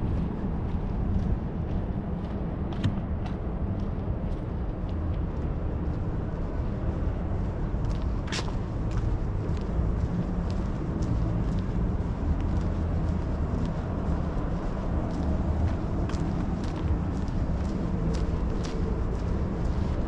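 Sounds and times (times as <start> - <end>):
footsteps on concrete: 0.0 - 5.2, 7.8 - 20.0
city traffic rumble: 0.0 - 20.0.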